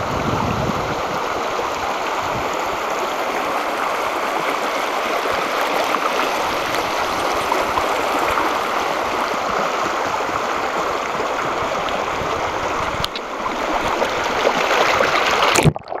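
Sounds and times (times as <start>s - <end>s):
river running over rocks: 0.0s - 15.7s.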